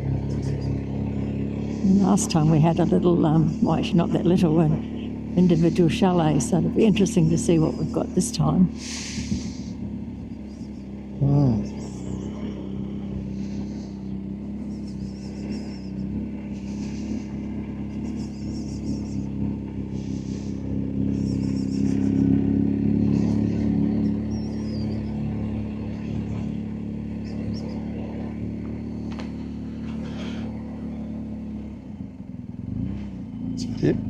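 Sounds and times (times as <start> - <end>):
motorcycle engine running at low speed: 0.0 - 34.0.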